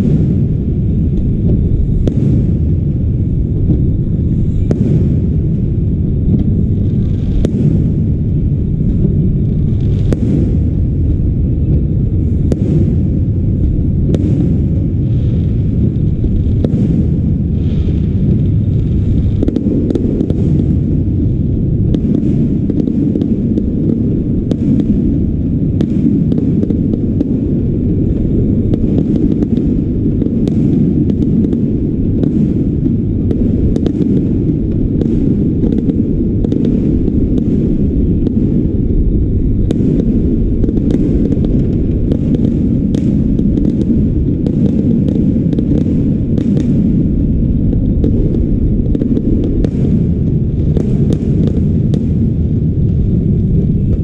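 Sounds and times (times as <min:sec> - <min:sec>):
fireworks bursting: 0:00.0 - 0:54.0
heavy low rumble: 0:00.0 - 0:54.0.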